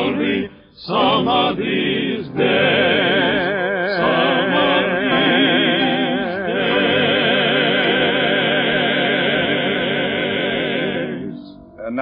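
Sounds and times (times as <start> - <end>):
choir holding a chord: 0.0 - 11.6.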